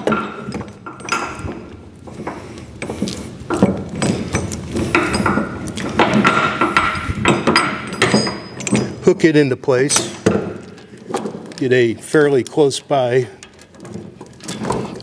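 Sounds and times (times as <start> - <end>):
chain binder clicks and knocks: 0.0 - 9.1, 9.9 - 12.6, 13.4 - 15.0
metal chain clinking: 0.0 - 9.1, 9.9 - 11.9, 13.2 - 15.0.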